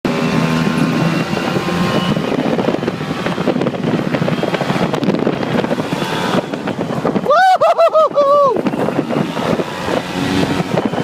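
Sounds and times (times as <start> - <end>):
off-road vehicle engine running: 0.1 - 11.0
wind buffeting microphone: 0.1 - 11.0.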